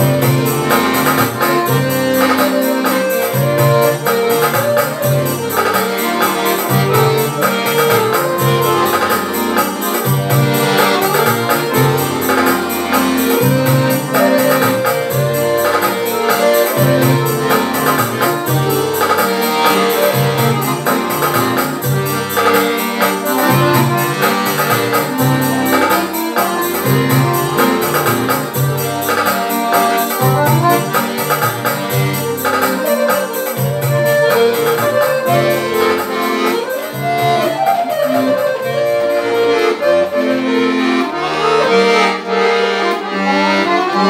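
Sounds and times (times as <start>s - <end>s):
accordion playing folk tune: 0.0s - 44.0s.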